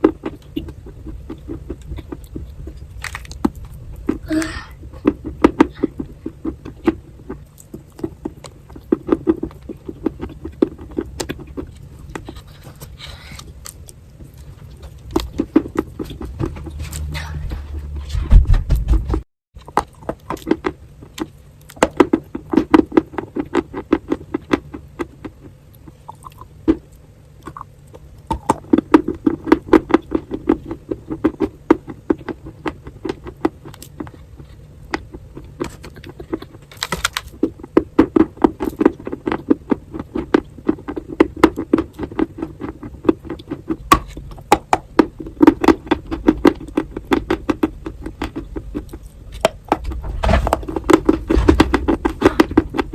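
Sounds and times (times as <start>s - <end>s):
crunching dry clay: 0.0s - 17.1s, 19.7s - 52.9s
rhythmic chewing: 0.0s - 18.9s, 19.6s - 52.9s.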